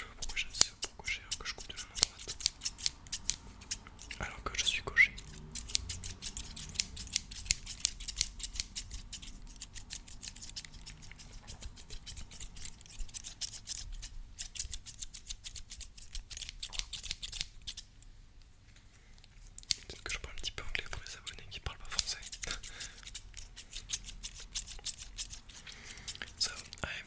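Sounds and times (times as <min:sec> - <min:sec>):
scissors snipping: 0:00.0 - 0:17.9, 0:19.6 - 0:20.3, 0:21.1 - 0:26.8.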